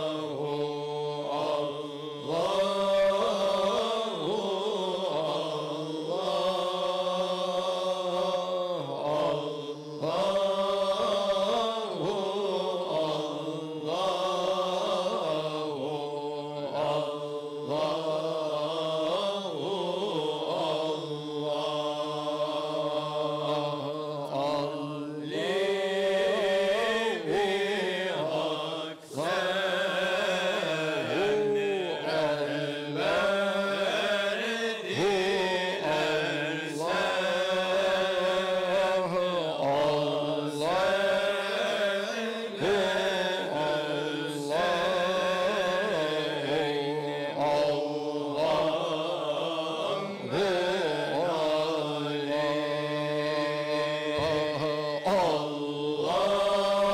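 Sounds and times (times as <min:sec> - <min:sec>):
men chanting: 0:00.0 - 0:56.9.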